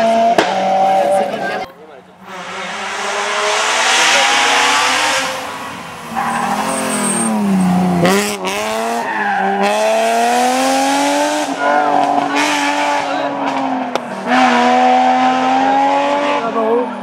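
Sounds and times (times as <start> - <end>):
car braking sharply: 2.2 - 15.9
rally car engine accelerating: 2.2 - 17.0.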